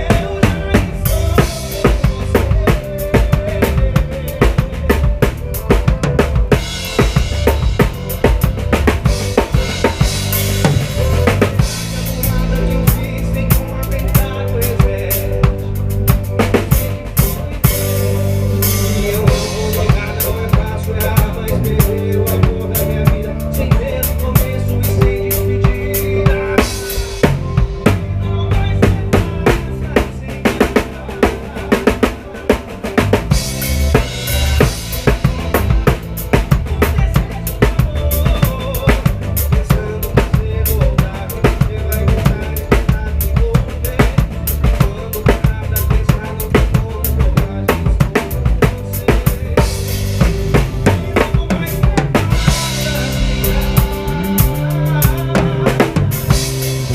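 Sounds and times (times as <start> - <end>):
drum kit beat: 0.0 - 56.9
live band playing: 0.0 - 56.9.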